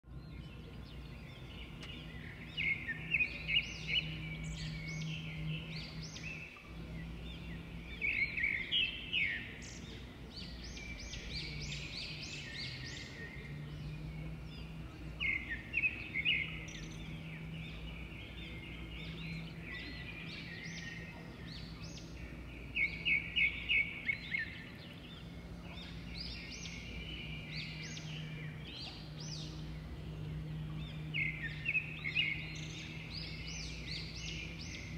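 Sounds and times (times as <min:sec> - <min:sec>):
songbirds chirping trills: 0:00.0 - 0:34.9
steady low hum: 0:00.1 - 0:34.9.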